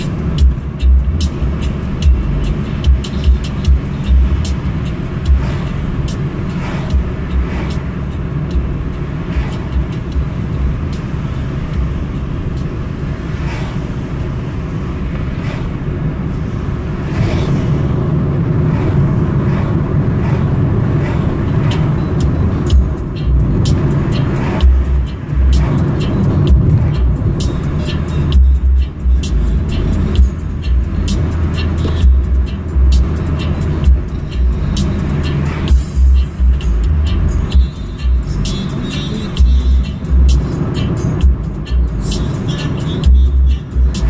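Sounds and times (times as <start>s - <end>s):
car engine and tyres rumbling: 0.0s - 44.0s.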